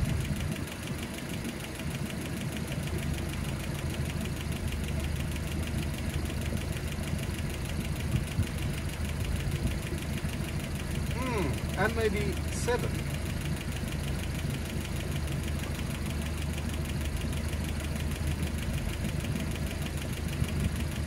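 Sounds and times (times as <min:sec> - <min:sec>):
car engine idling: 0:00.0 - 0:21.0
valve gear ticking: 0:00.0 - 0:21.0.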